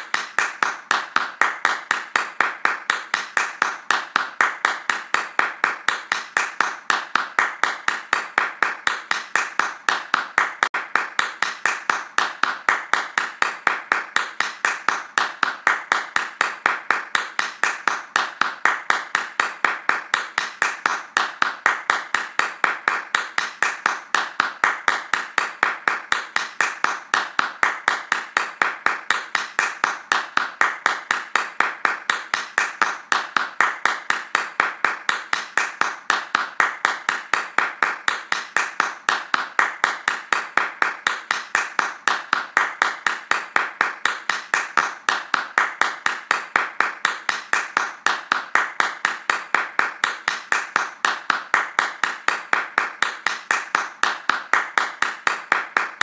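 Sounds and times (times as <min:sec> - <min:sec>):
hands clapping fast: 0:00.0 - 0:56.0.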